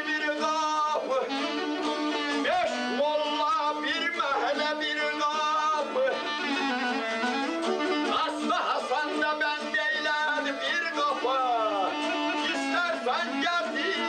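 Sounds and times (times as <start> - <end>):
double-reed wind instrument melody: 0.0 - 14.0
strummed lute: 0.0 - 14.0.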